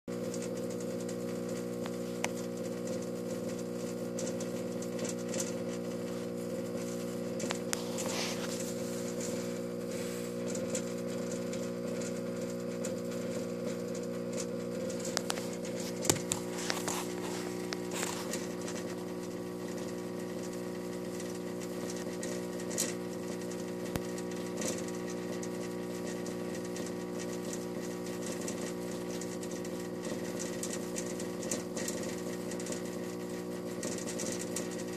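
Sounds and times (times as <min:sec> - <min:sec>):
fluorescent light humming: 0:00.1 - 0:34.9.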